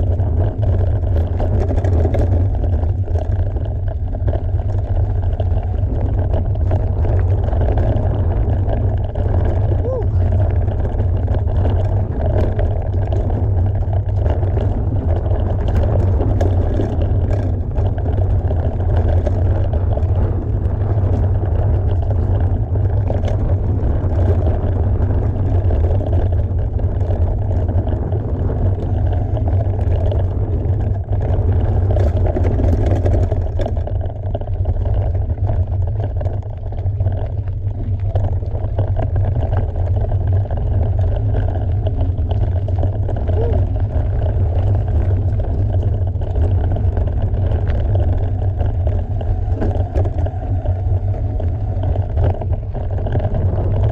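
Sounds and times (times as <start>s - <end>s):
bike clicks and rattles: 0.0s - 53.9s
bike tyre noise: 0.0s - 53.9s
wind rumble on microphone: 0.0s - 53.9s.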